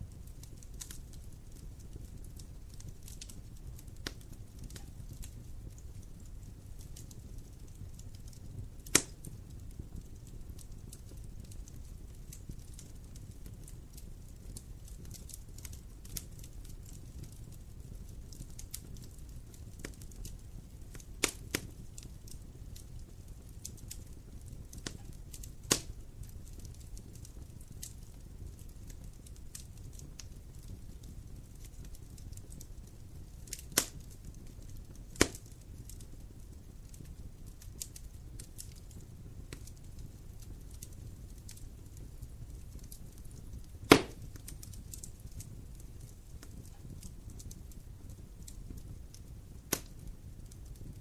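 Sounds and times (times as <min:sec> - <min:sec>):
low rumble of fire: 0:00.0 - 0:51.0
wood crackling and popping: 0:00.0 - 0:51.0.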